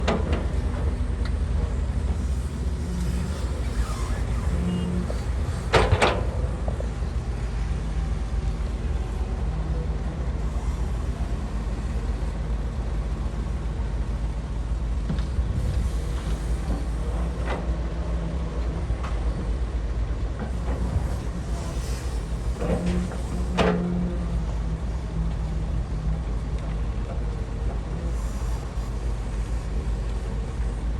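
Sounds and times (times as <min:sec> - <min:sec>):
excavator diesel engine: 0:00.0 - 0:30.9.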